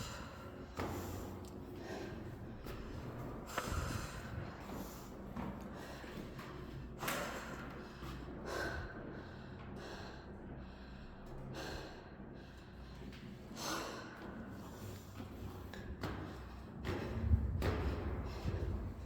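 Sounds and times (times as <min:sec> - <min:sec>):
person breathing hard and sniffing: 0:00.0 - 0:19.0.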